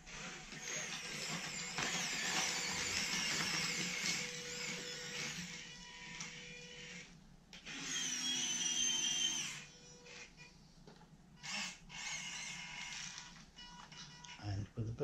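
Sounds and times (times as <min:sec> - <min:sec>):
electric servos whirring: 0:00.1 - 0:10.5, 0:11.4 - 0:14.4.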